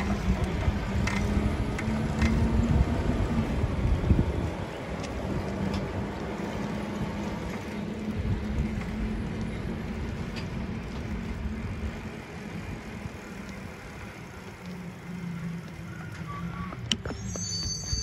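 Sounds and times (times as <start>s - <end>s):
vehicle motor hum: 0.0s - 17.4s
road and wind noise: 0.0s - 18.0s.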